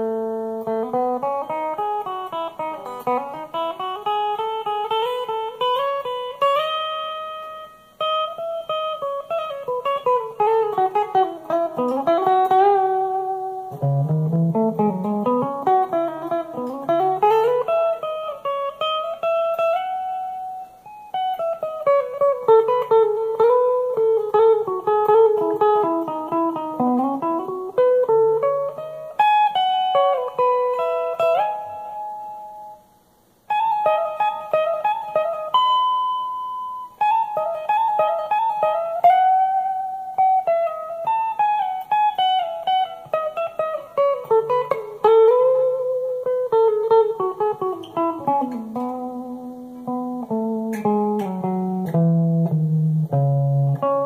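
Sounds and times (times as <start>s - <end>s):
solo guitar melodic runs: 0.0s - 54.0s.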